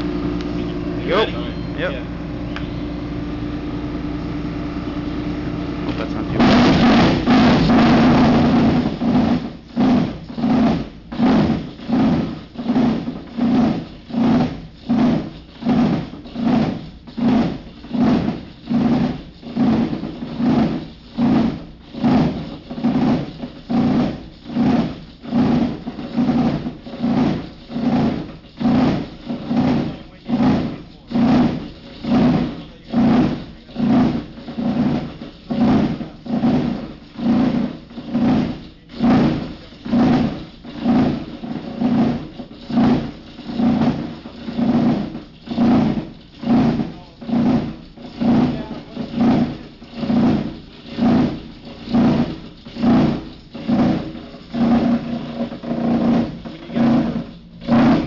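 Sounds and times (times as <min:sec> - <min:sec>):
granulator grinding plastic film: 0:00.0 - 0:58.0.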